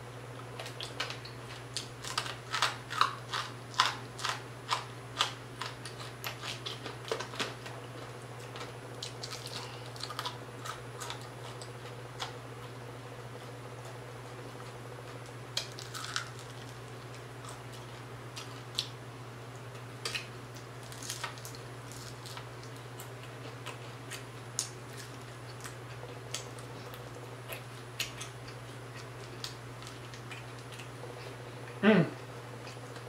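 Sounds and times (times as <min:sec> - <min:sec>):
steady low hum: 0:00.0 - 0:33.0
crunchy chewing: 0:00.3 - 0:33.0.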